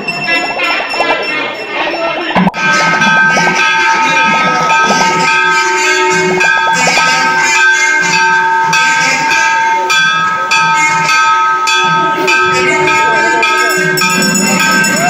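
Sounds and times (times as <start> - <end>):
high drone: 0.0 - 15.0
rhythmic metallic hits: 0.0 - 15.0.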